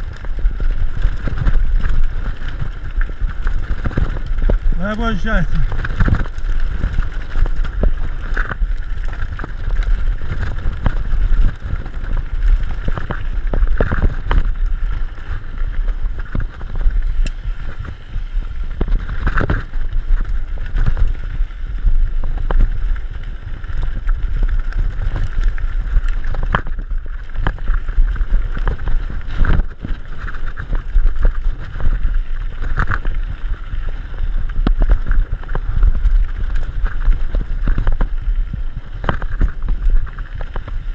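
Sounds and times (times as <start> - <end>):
bike tyres rumbling on gravel: 0.0 - 40.9
wheels knocking on stones: 0.0 - 40.9
wind buffeting the microphone: 0.0 - 40.9.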